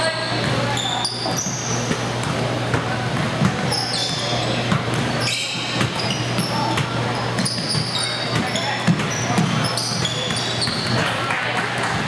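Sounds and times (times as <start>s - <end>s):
sneaker squeaks: 0.0s - 11.2s
low crowd murmur: 0.0s - 12.0s
ball bouncing: 0.4s - 12.0s.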